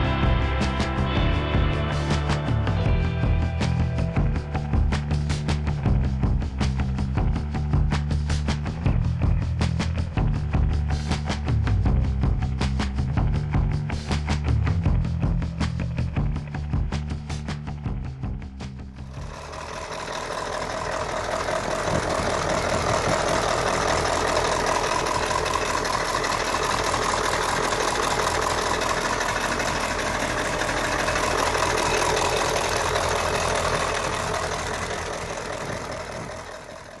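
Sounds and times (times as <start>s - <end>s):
large engine running: 0.0s - 37.0s.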